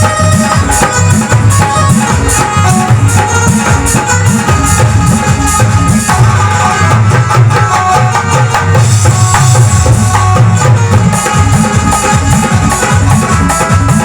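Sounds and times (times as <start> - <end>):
hand drum rhythm: 0.0 - 14.0
sustained melody line: 0.0 - 14.0.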